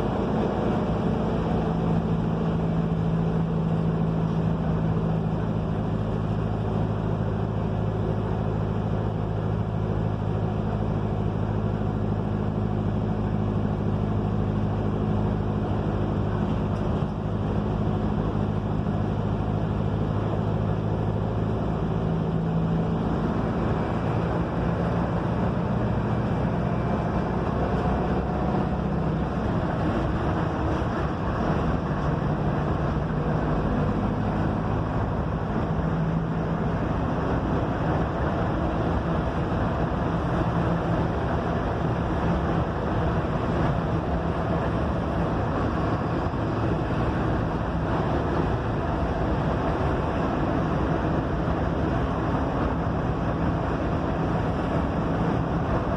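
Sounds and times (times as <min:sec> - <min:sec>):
bus diesel engine drone: 0:00.0 - 0:55.9
road and wind noise: 0:00.0 - 0:55.9.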